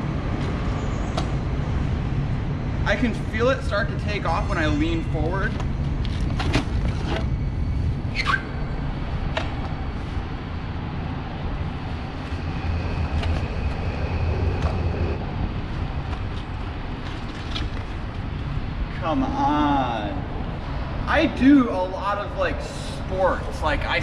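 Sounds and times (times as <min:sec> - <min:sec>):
low rumble of street traffic: 0:00.0 - 0:24.0.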